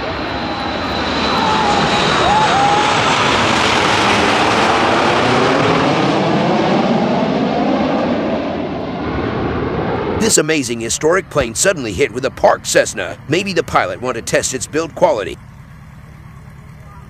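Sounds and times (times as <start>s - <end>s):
jets flying low overhead: 0.0s - 17.0s.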